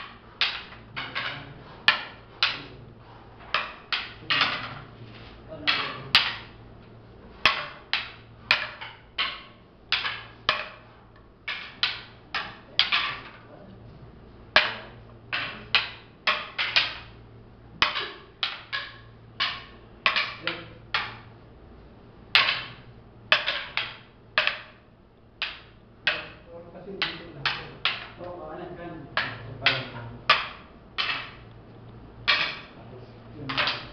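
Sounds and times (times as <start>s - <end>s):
wooden sticks clacking: 0.0s - 33.9s.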